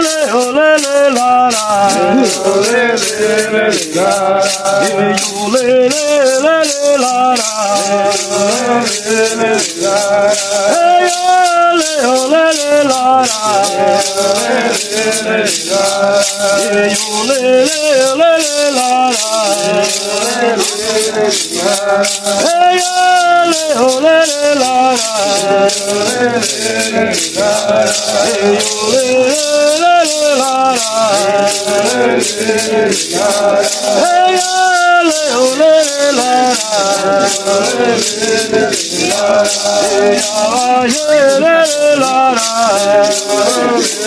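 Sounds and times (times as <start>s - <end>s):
maracas shaking: 0.0s - 44.0s
voices singing a chant: 0.0s - 44.0s.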